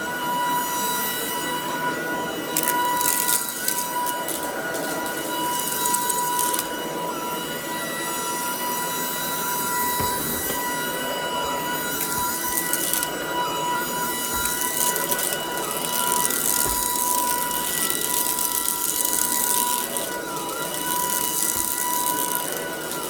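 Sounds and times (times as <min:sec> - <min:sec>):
vacuum motor whine: 0:00.0 - 0:23.0.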